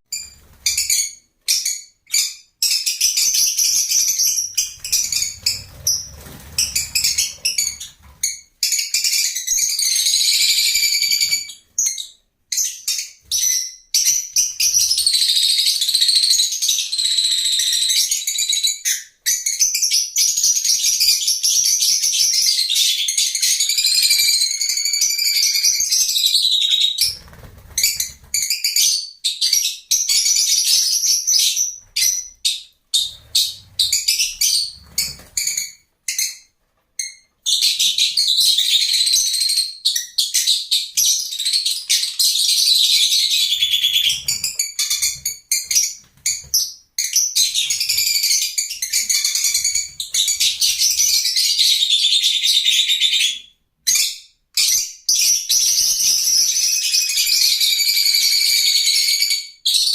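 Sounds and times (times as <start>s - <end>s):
lovebirds chirping: 0.1s - 57.8s.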